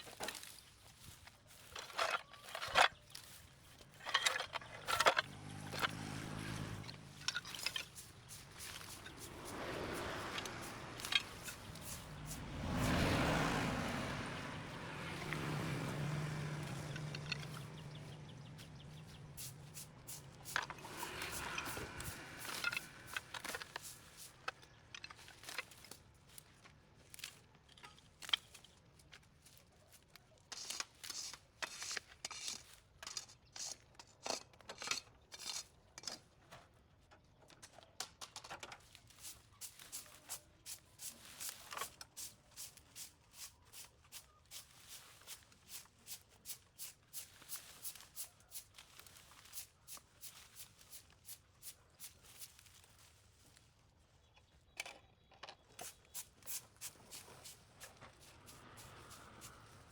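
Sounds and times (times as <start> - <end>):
hand tools scraping soil: 0.0 - 36.6, 38.6 - 59.9.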